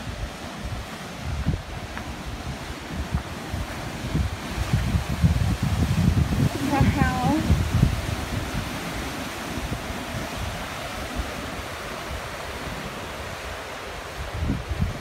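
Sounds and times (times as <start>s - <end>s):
surf breaking over rocks: 0.0s - 15.0s.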